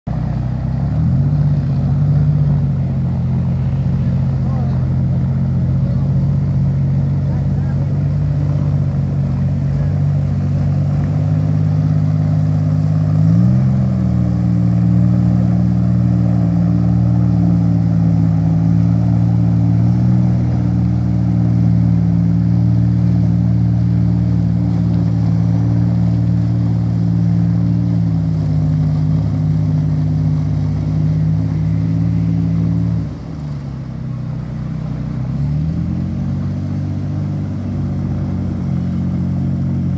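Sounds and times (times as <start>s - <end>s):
boat engine running: 0.1s - 39.9s.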